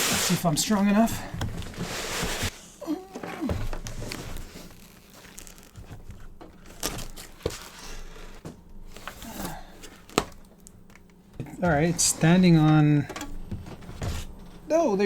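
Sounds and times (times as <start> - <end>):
cardboard packaging rustling: 0.0 - 14.7.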